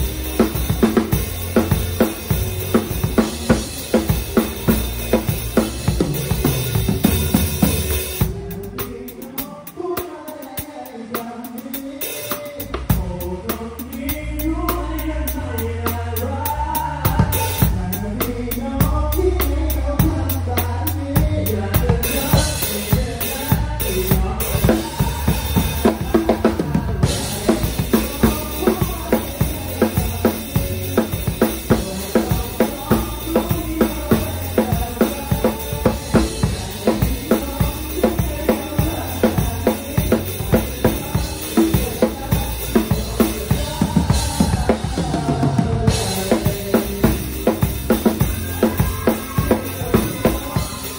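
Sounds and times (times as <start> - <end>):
band backing track: 0.0 - 50.9
drum kit playing: 0.0 - 50.9.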